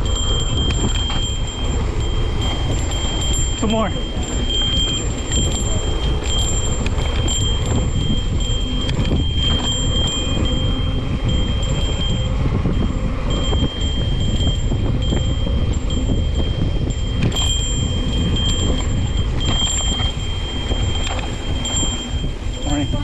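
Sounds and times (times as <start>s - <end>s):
high ringing tone: 0.0s - 23.0s
wind rushing: 0.0s - 23.0s.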